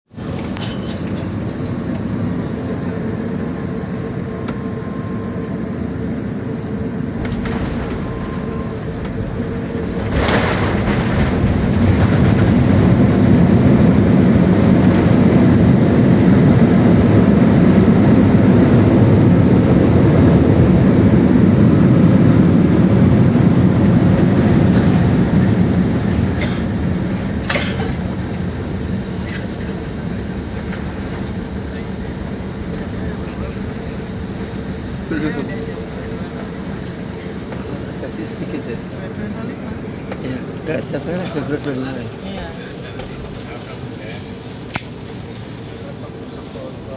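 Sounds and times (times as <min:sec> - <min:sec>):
airliner cabin engine rumble: 0:00.1 - 0:46.9.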